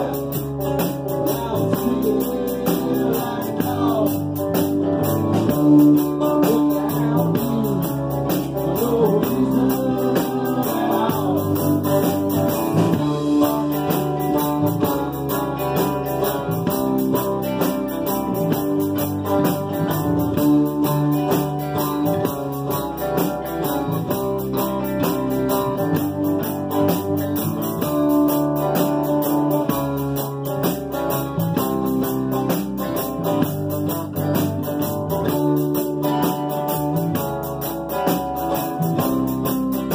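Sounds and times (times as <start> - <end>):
acoustic guitars strumming: 0.0 - 39.9
electric bass: 0.0 - 39.9.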